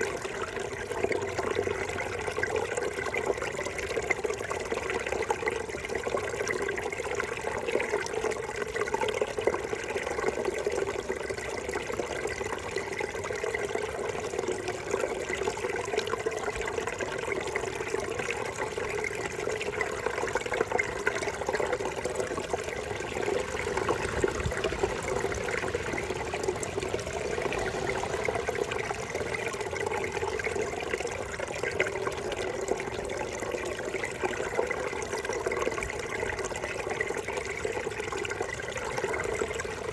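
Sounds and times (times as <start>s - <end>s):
water gurgling over rocks: 0.0s - 39.9s.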